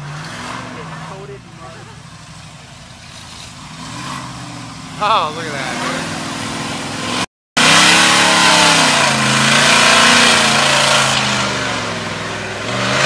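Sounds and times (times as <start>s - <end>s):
truck engine revving hard: 0.0s - 13.0s
tyres churning through mud: 0.0s - 13.0s.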